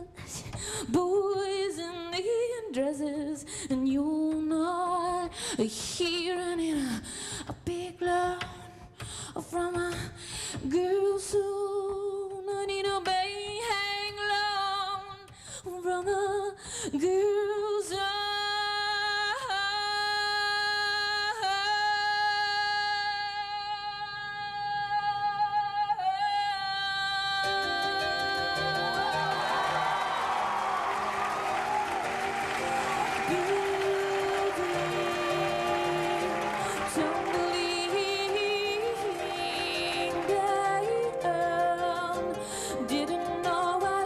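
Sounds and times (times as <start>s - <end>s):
woman singing unaccompanied: 0.0s - 30.6s, 32.8s - 44.0s.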